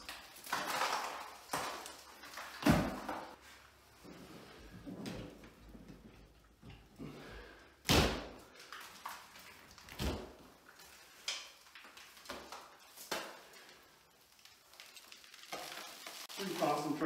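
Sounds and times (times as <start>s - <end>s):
drywall crumbling and scraping: 0.0s - 17.0s.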